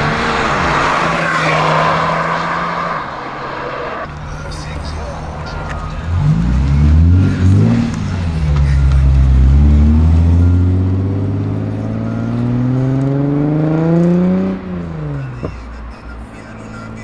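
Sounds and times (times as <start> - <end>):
car engine revving and accelerating: 0.0 - 17.0.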